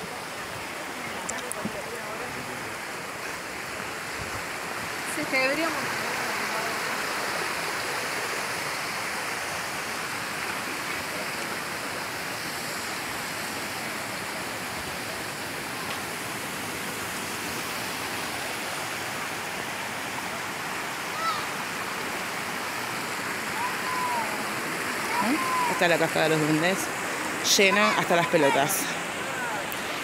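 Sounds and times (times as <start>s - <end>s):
rushing creek and waterfall: 0.0s - 30.0s.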